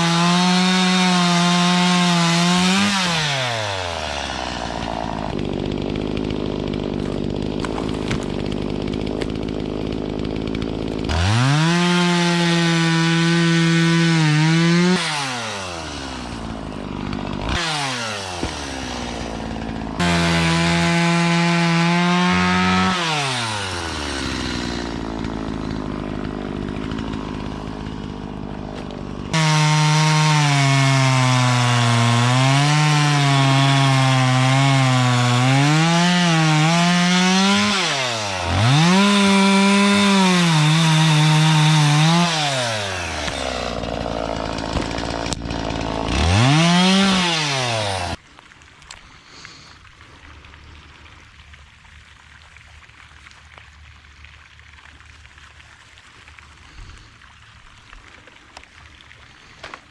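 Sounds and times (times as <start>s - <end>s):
chainsaw cutting wood: 0.0s - 48.2s, 59.2s - 59.9s
chainsaw revving: 0.0s - 48.2s.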